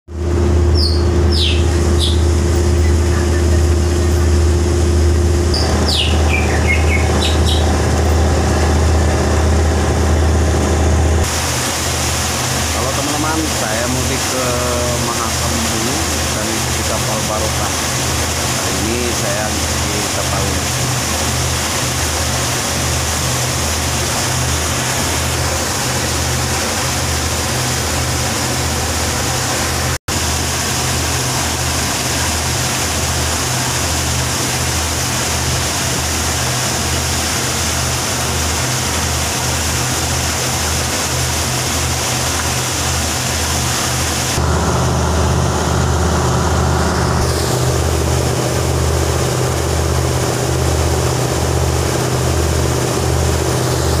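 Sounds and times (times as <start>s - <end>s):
boat engine pulsing: 0.1s - 54.0s
water rushing along hull: 0.1s - 54.0s
water hissing: 5.6s - 44.9s, 46.1s - 54.0s.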